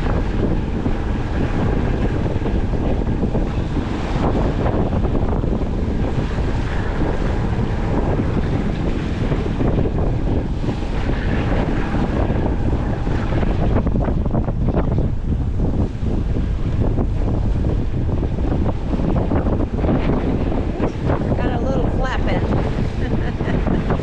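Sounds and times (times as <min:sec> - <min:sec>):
water washing along hull: 0:00.0 - 0:24.0
wind buffeting microphone: 0:00.0 - 0:24.0.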